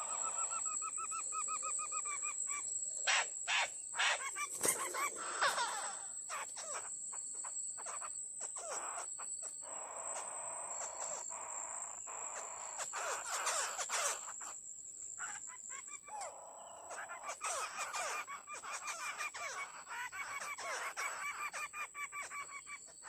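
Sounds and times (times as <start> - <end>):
birds calling: 0.0 - 14.6, 15.2 - 23.0
high-pitched insect drone: 0.0 - 22.8.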